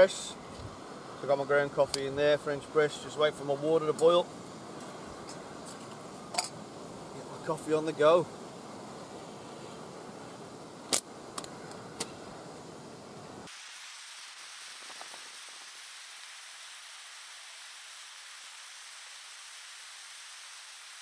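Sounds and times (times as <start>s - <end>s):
gas stove burner hissing: 0.0s - 21.0s.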